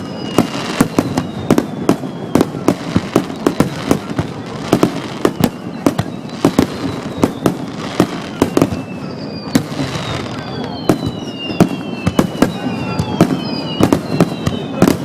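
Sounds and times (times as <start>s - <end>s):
falling whistling fireworks: 0.0s - 15.0s
fireworks bursting: 0.0s - 15.0s.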